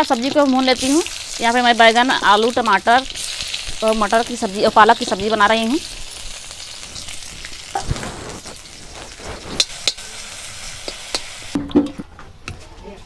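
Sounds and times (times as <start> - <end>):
vegetables sizzling in oil: 0.0 - 11.6.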